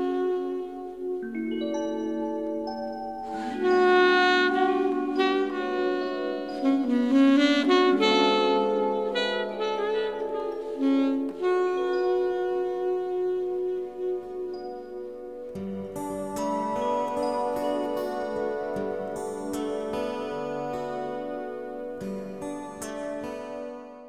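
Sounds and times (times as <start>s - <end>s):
saxophone melody: 0.0s - 24.0s.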